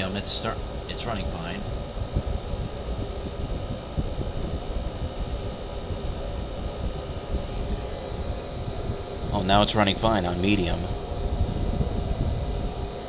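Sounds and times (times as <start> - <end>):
air conditioner fan humming: 0.0 - 13.0.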